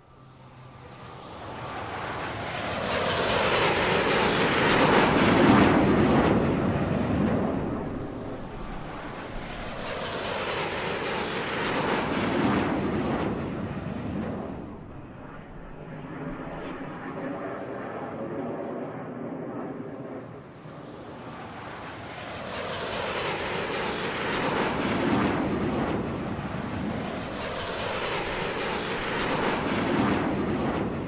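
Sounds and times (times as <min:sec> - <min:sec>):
fighter jet fly-by: 0:00.0 - 0:31.0.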